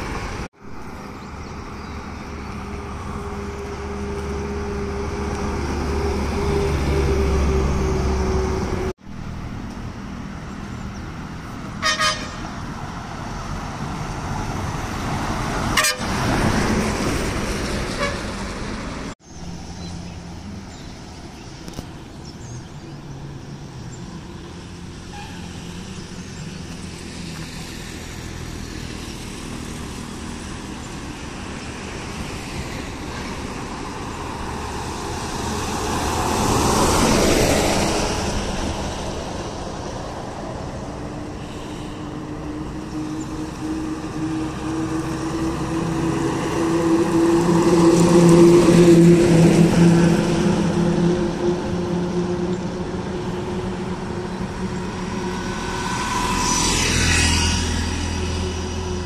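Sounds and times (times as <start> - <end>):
auto-rickshaw engine: 0.0 - 59.0
heavy vehicle engine hum: 0.0 - 59.0
highway traffic passing: 0.0 - 59.0.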